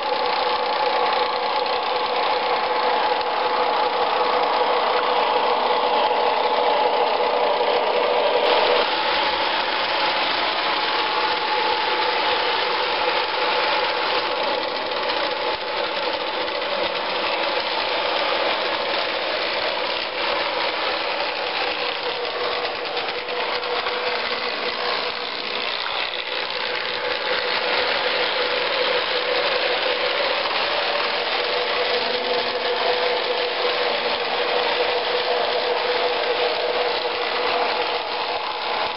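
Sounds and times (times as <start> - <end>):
diesel engine sound effect: 0.0 - 38.9
model train motor whir and clatter: 0.0 - 38.9.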